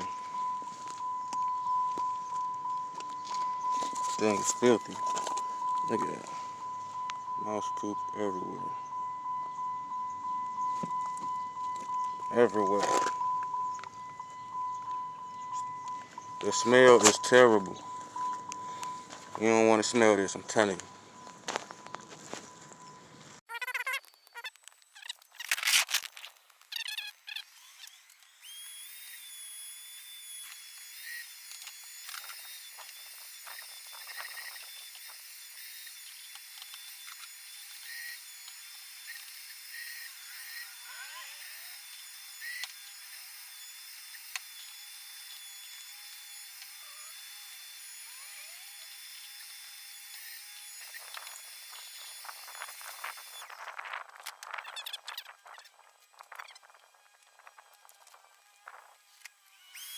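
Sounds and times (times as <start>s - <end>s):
vacuum cleaner whining: 0.0s - 22.6s, 27.5s - 53.4s.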